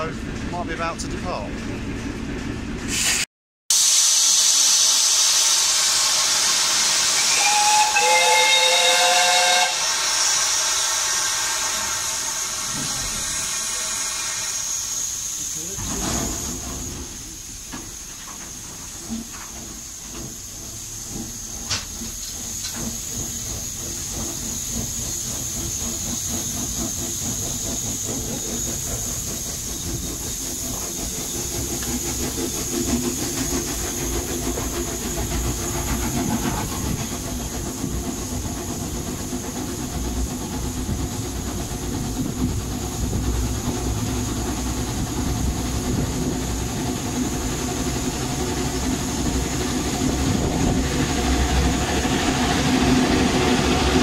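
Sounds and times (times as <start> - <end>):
train rumbling on rails: 0.0 - 3.1, 3.8 - 54.0
steam locomotive hissing: 2.9 - 54.0.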